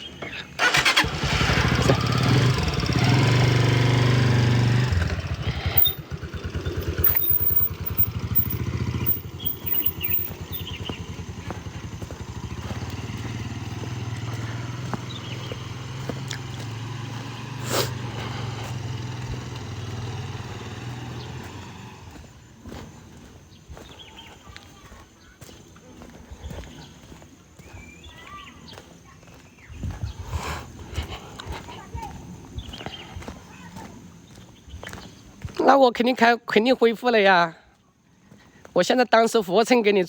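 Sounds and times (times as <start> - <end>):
motorcycle engine running: 0.2 - 35.5.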